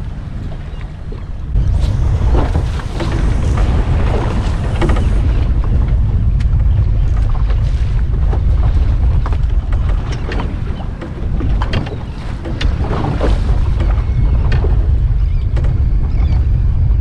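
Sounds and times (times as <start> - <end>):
choppy sea: 0.0 - 17.0
wind buffeting microphone: 0.0 - 17.0.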